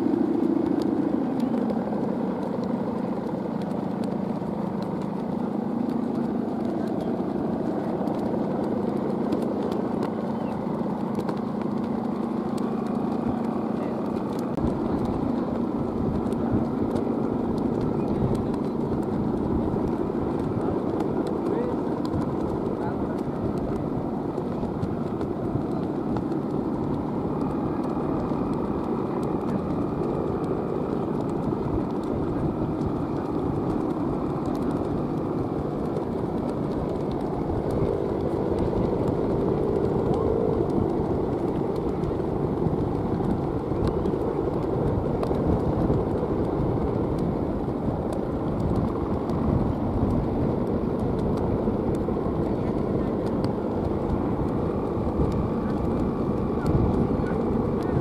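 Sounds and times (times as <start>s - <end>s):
faint voices: 0.0s - 46.1s, 51.2s - 58.0s
wind buffeting microphone: 0.0s - 58.0s.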